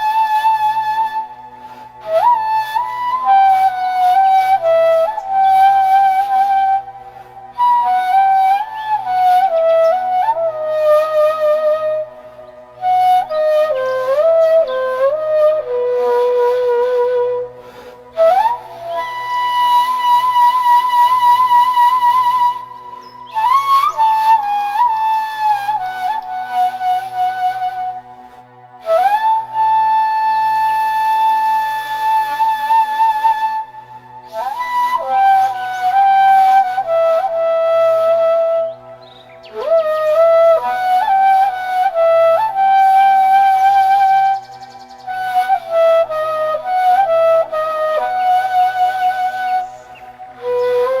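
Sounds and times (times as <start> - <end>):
solo flute melody: 0.0 - 51.0.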